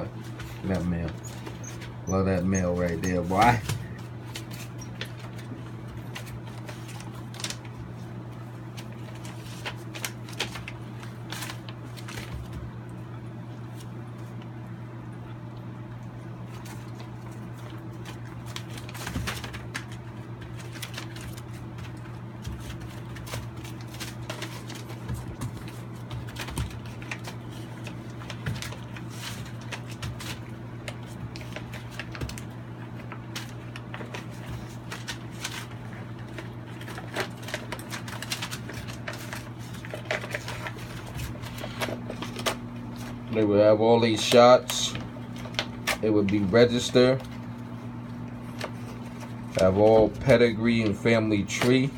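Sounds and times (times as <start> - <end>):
newspaper rustling: 0.0 - 12.7, 16.4 - 51.9
steady low hum: 0.0 - 51.9.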